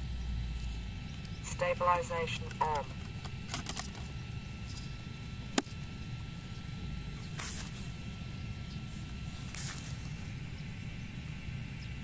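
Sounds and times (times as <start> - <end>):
faint whine: 0.0 - 12.0.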